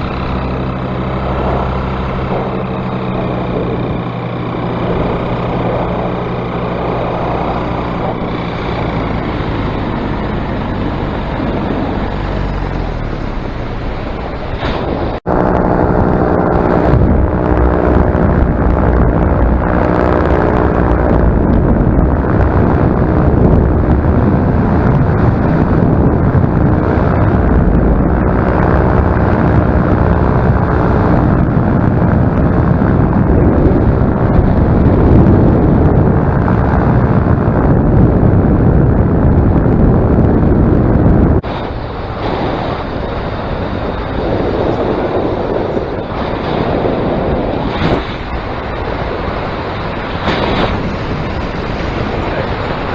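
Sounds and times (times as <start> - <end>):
paramotor engine and propeller: 0.0 - 52.9
wind buffeting microphone: 0.0 - 52.9.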